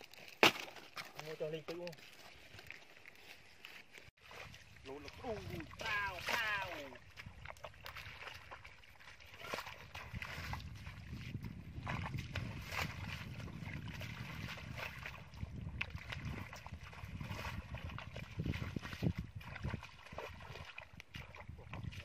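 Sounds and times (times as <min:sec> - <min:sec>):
bare feet wading through mud: 0:00.0 - 0:22.0.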